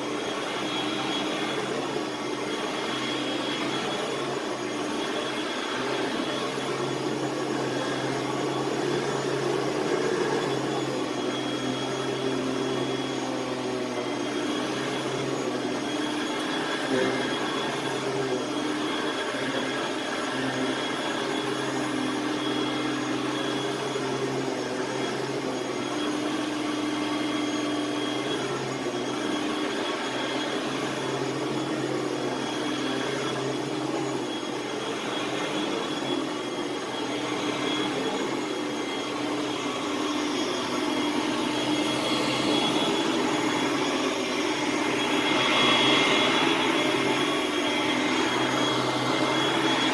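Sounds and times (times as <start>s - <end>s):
upright vacuum cleaner running: 0.0s - 49.9s.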